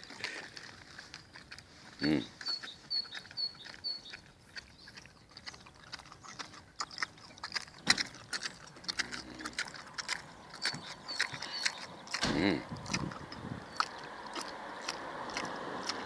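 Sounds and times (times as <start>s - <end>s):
pig chewing and smacking: 0.0s - 16.0s.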